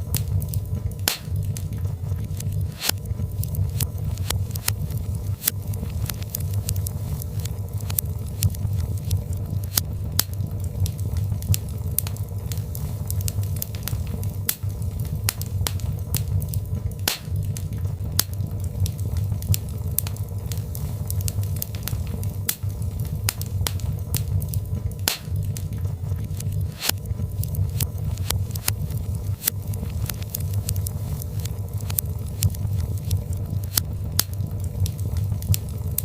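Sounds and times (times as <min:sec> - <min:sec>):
fire pops and snaps: 0:00.0 - 0:36.0
low rumble of fire: 0:00.0 - 0:36.0.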